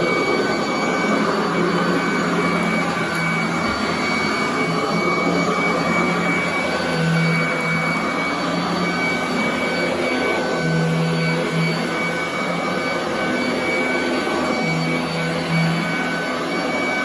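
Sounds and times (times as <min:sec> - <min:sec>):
vacuum cleaner running on carpet: 0:00.0 - 0:17.0.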